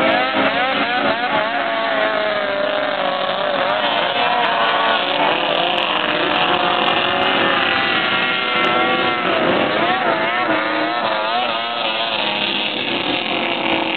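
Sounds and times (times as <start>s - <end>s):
snowmobile engine at high revs: 0.0s - 13.9s.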